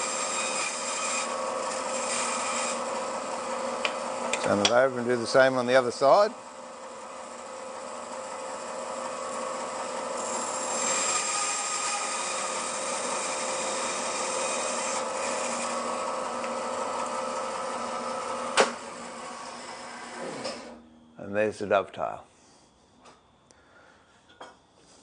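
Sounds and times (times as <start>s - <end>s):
bandsaw cutting wood: 0.0s - 20.7s.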